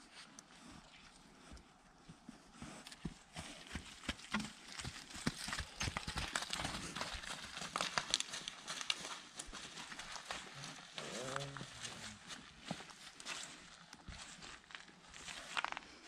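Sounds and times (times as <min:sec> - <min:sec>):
horse hooves clopping: 0:00.6 - 0:15.8.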